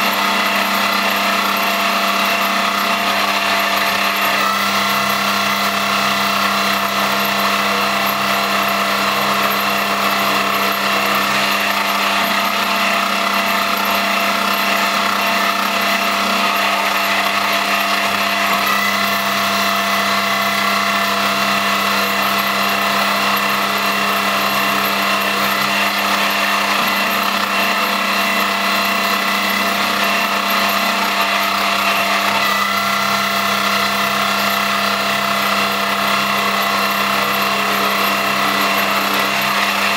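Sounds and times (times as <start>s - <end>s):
lathe machine whine: 0.0s - 39.9s.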